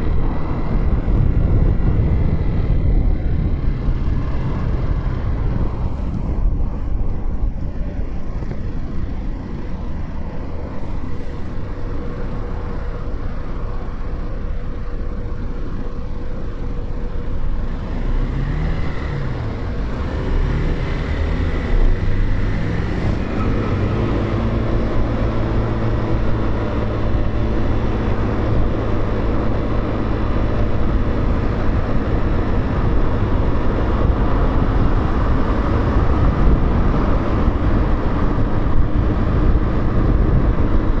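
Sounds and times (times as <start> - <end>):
wind on microphone: 0.0 - 14.0, 16.8 - 41.0
motorcycle engine accelerating: 0.0 - 41.0.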